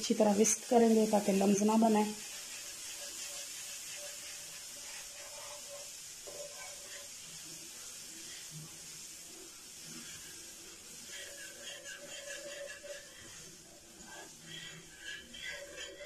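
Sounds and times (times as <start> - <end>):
faint steady hiss: 0.0 - 16.0
wire whisk stirring sauce: 0.0 - 16.0.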